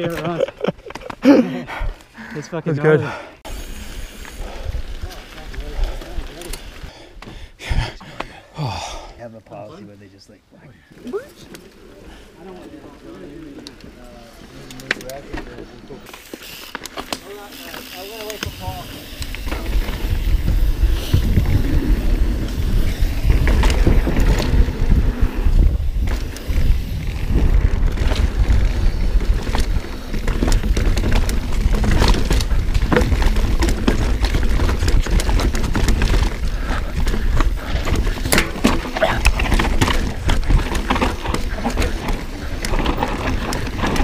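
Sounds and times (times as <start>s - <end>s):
wind and tyres rumbling: 3.0s - 8.0s, 10.9s - 44.0s
bike rattling over rough ground: 3.1s - 7.2s, 11.0s - 44.0s.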